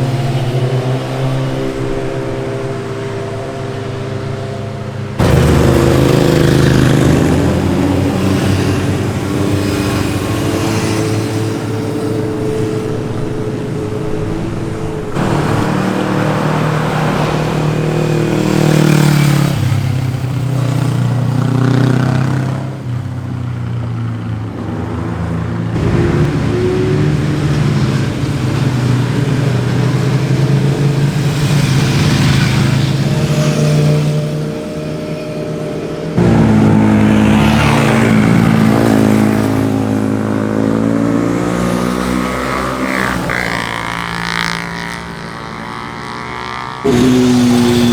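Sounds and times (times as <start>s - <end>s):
motorcycle engines revving past: 0.0s - 47.9s.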